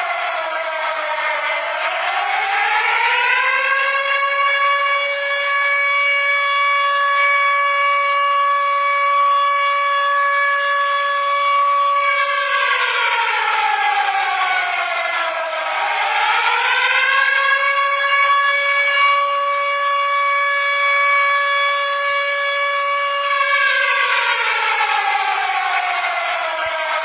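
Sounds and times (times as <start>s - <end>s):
civil defense siren: 0.0s - 27.0s.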